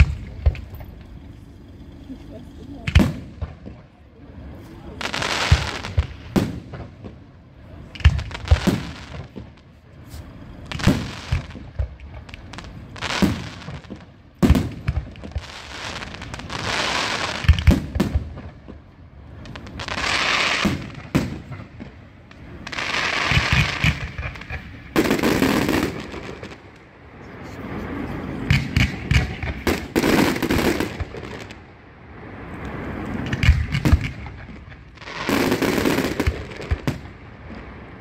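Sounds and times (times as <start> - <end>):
firework bangs: 0.0 - 38.0.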